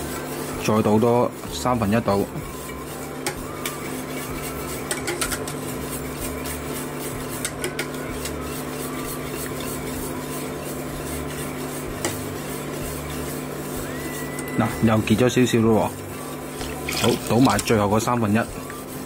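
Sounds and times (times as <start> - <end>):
steady low hum: 0.0 - 19.0
whisk scraping metal saucepan: 0.0 - 19.0
whisk wires clicking on pan: 1.5 - 18.9.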